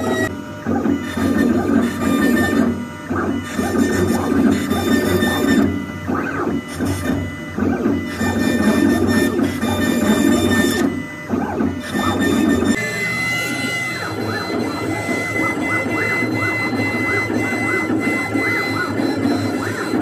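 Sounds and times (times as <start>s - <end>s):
cnc router cutting wood: 0.0s - 20.0s
motors whirring: 0.0s - 20.0s.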